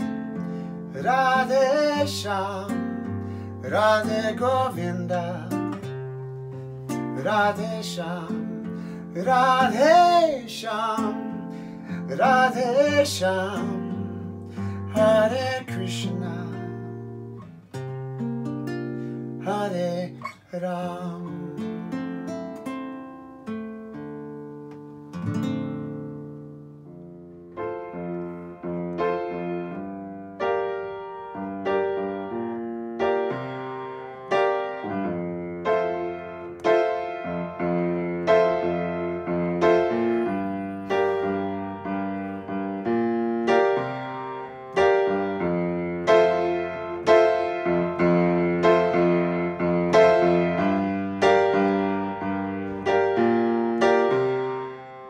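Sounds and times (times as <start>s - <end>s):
acoustic guitar chords: 0.0s - 55.0s
upright piano notes and chords: 0.0s - 55.0s.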